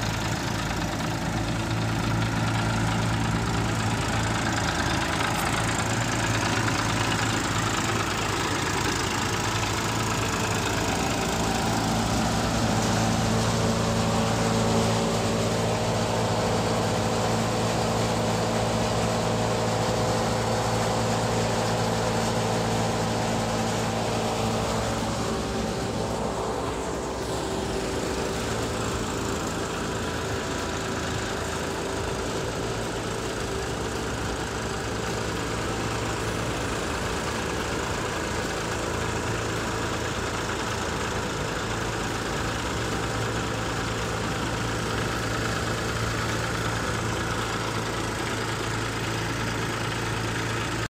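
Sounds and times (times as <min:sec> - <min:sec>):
thresher engine drone: 0:00.0 - 0:50.9.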